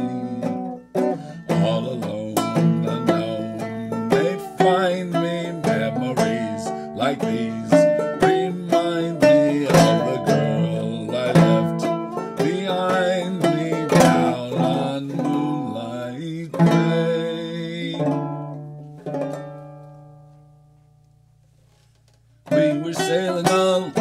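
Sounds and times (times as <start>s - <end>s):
banjo picking and strumming: 0.0s - 21.1s, 22.1s - 24.0s.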